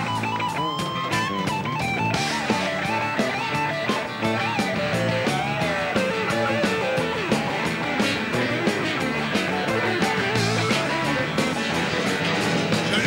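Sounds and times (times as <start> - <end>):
bass: 0.0 - 13.0
electric guitar solo: 0.0 - 13.0
steady drum beat: 0.0 - 13.0.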